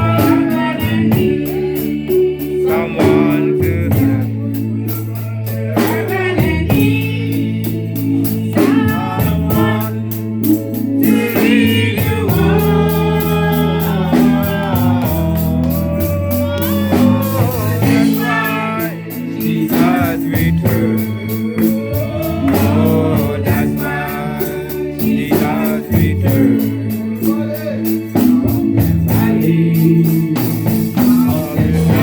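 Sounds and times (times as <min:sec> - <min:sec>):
gospel band playing: 0:00.0 - 0:32.0
held bass notes: 0:00.0 - 0:32.0
person singing: 0:00.0 - 0:32.0
steady percussion beat: 0:00.0 - 0:32.0.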